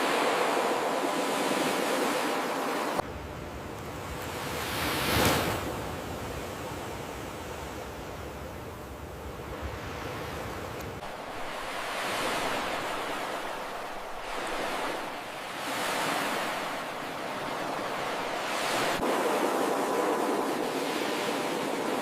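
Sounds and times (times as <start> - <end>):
waves washing on a beach: 0.0 - 22.0.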